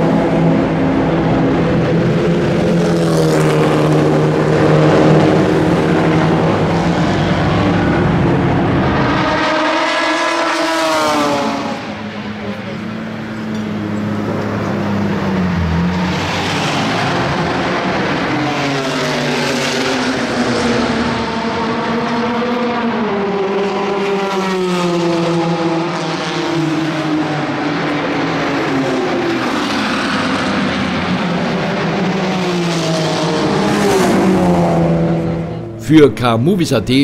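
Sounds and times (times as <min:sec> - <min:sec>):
racing car engines revving past: 0:00.0 - 0:37.0.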